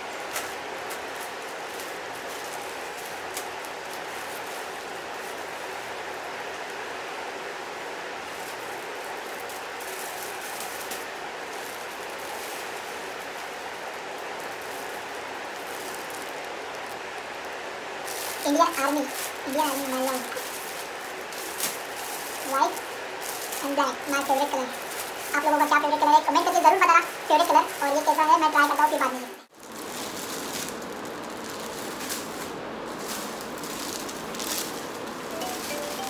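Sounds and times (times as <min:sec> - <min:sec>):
plastic packaging rustling: 0:00.0 - 0:36.0.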